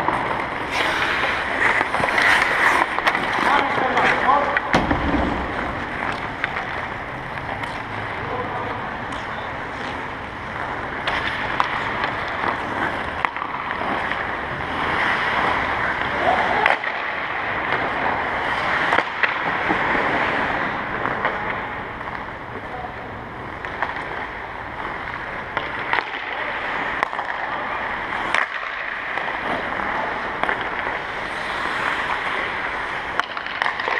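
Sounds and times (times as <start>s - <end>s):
hockey sticks and puck clacking: 0.0s - 33.9s
skates scraping ice: 0.0s - 33.9s.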